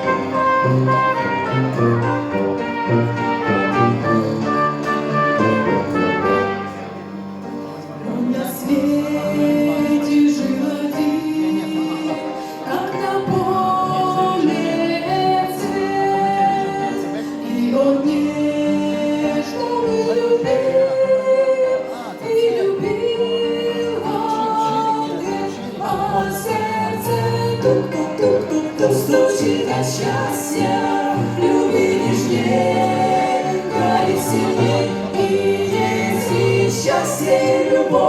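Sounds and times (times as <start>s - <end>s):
instrumental accompaniment: 0.0s - 38.0s.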